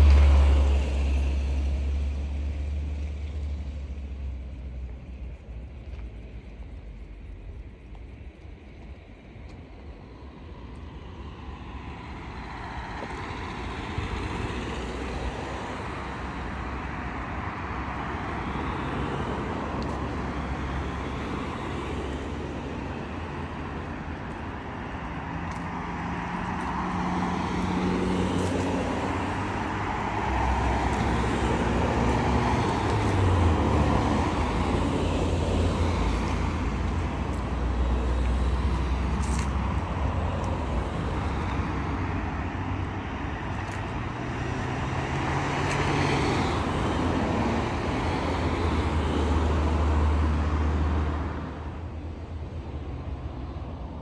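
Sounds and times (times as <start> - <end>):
cars driving past: 0.0 - 54.0.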